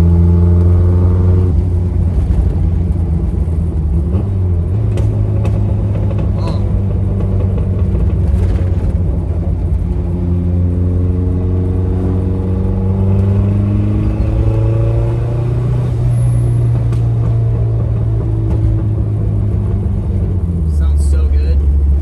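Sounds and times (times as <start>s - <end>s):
car engine accelerating: 0.0s - 22.0s
road rumble: 0.0s - 22.0s.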